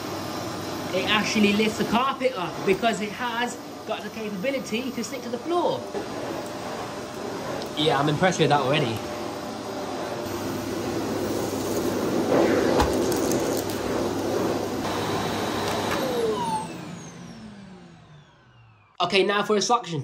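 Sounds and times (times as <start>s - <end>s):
vacuum cleaner running on carpet: 0.0s - 19.0s
vacuum motor spinning down: 0.0s - 19.1s.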